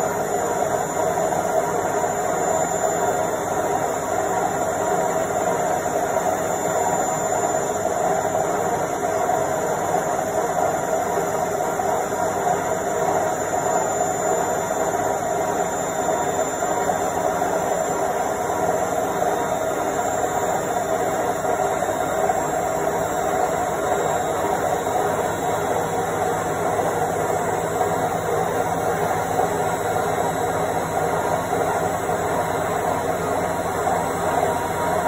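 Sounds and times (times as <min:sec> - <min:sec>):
washing machine spin drone: 0:00.0 - 0:35.0.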